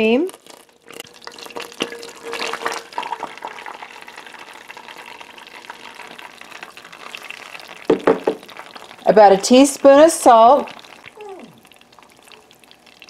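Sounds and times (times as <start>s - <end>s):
faint sizzle in pan: 0.0s - 13.0s
cream pouring into saucepan: 0.3s - 13.0s.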